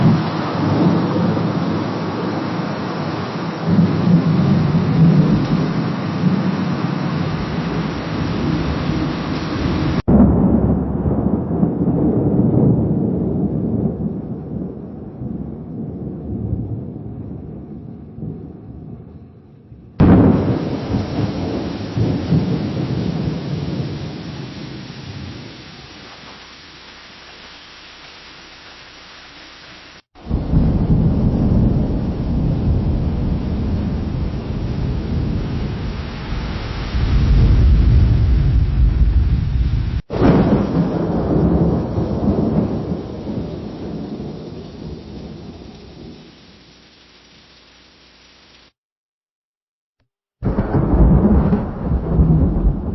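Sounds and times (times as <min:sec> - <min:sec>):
lightning crack: 0:00.0 - 0:18.8, 0:20.0 - 0:47.8, 0:50.4 - 0:52.9
thunder rumbling: 0:00.0 - 0:46.9, 0:50.4 - 0:52.9.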